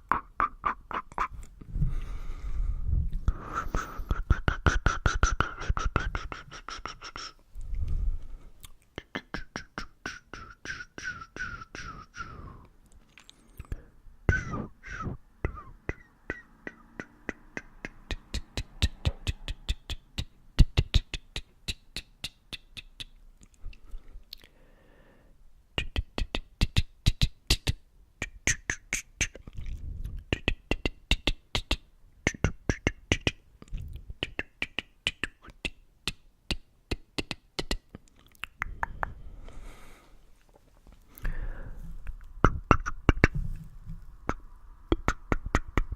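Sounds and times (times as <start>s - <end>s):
mouth clicks and pops: 0.0s - 1.7s, 3.1s - 8.0s, 8.6s - 24.5s, 25.8s - 39.4s, 42.0s - 45.9s.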